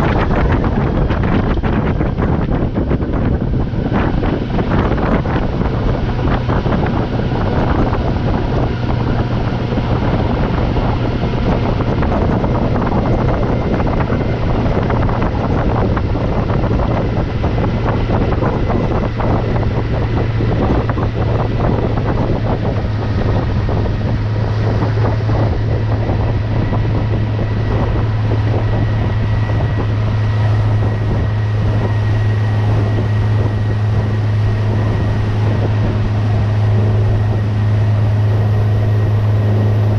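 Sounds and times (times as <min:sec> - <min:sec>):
outboard motor running: 0:00.0 - 0:39.9
water rushing past hull: 0:00.0 - 0:39.9
wind buffeting microphone: 0:00.0 - 0:39.9.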